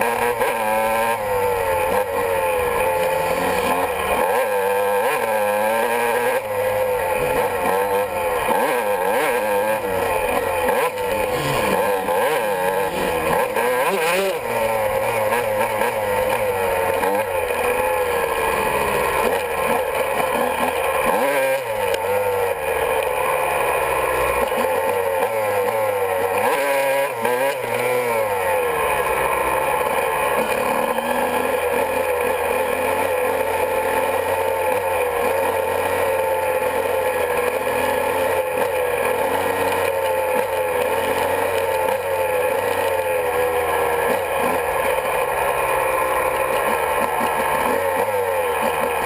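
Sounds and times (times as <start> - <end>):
two-stroke motorcycle engine revving: 0.0 - 49.0.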